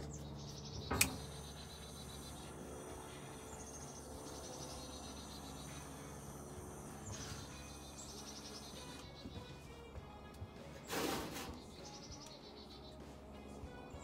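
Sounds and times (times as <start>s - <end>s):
high-pitched chirping trills: 0.0s - 9.8s, 11.6s - 13.2s
low steady hum: 0.0s - 14.0s.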